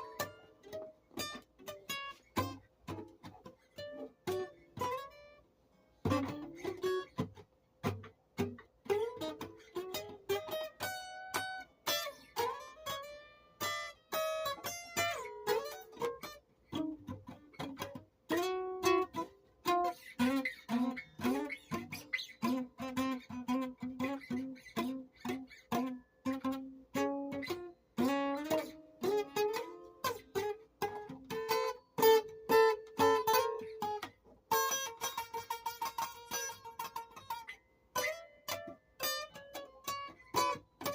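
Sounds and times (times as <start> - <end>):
plucked string instrument melody: 0.0 - 40.9.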